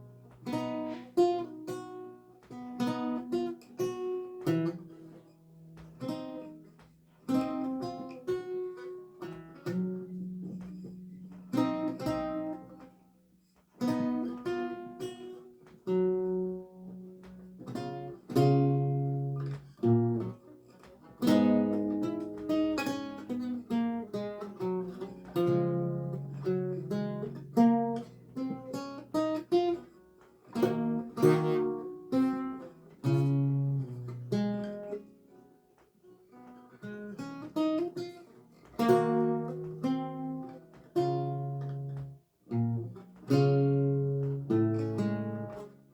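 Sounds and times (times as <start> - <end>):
solo lute music: 0.0 - 45.9.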